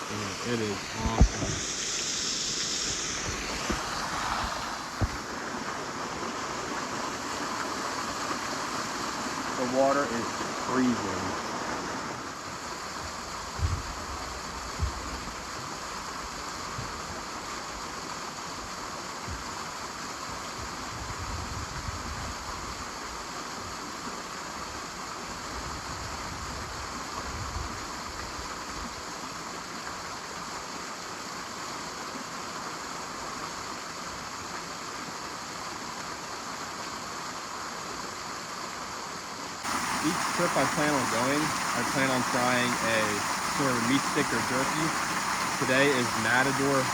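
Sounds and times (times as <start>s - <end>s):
waterfall pouring into pool: 0.0s - 20.8s, 27.8s - 46.9s.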